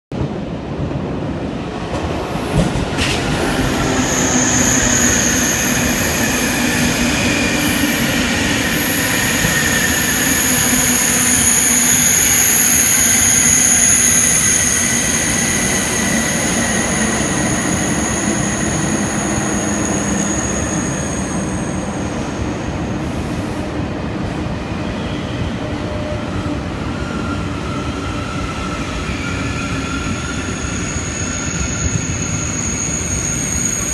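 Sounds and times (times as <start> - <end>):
train rumble and rush: 0.1 - 33.9
high-pitched brake squeal: 3.0 - 23.6, 26.9 - 33.9.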